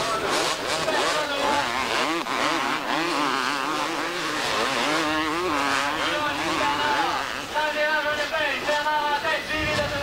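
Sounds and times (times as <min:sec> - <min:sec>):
motocross motorcycles racing: 0:00.0 - 0:10.0.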